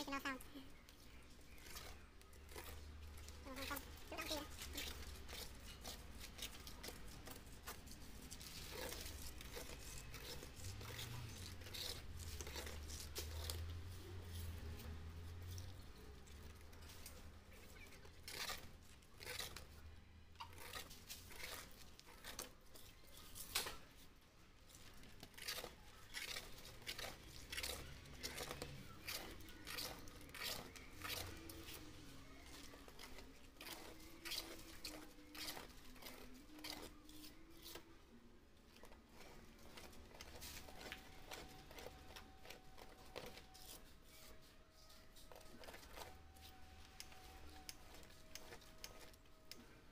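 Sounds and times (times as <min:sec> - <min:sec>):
film scraping and tearing off glass: 0:01.5 - 0:19.8, 0:20.4 - 0:24.0, 0:24.7 - 0:38.0, 0:38.7 - 0:49.8.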